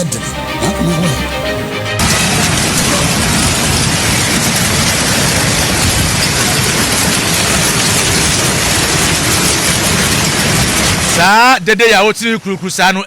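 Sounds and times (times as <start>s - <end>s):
heavy rain pelting down: 0.0s - 13.0s.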